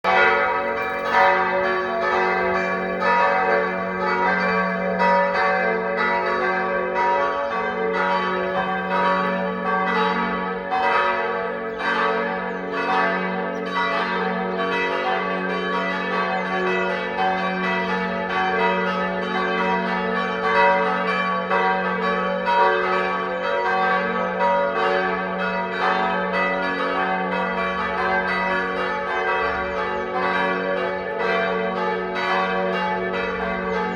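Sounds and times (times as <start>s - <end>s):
church bells pealing: 0.0s - 33.9s.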